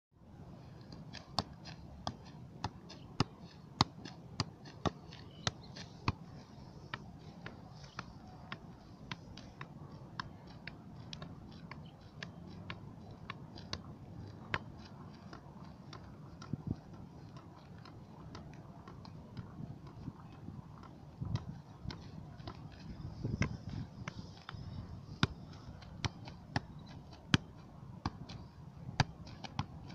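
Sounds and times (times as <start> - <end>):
football being juggled: 0.9 - 29.9.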